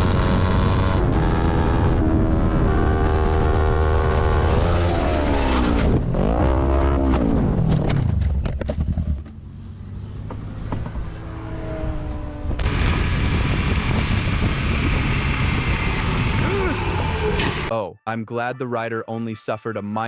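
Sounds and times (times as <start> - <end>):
motorcycle engine revving: 0.0 - 17.7.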